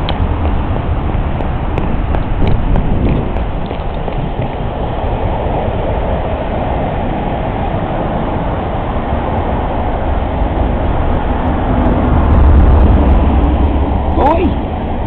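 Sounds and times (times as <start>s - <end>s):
diesel locomotive engine rumble: 0.0s - 15.0s
train wheels on rails: 0.0s - 15.0s.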